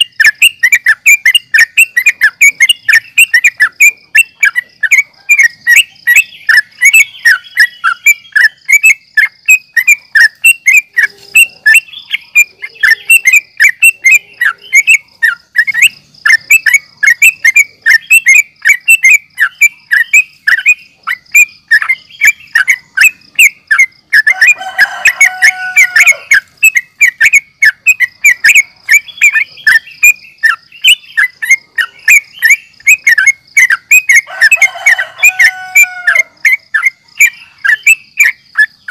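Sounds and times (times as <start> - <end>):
bird chirping rapidly: 0.0 - 38.9
burst of tangled bird calls: 0.0 - 38.9.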